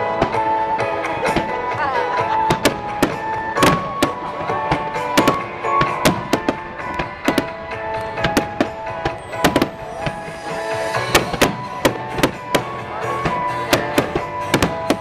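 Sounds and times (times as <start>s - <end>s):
music with held notes: 0.0s - 15.0s
fireworks bangs: 2.4s - 15.0s.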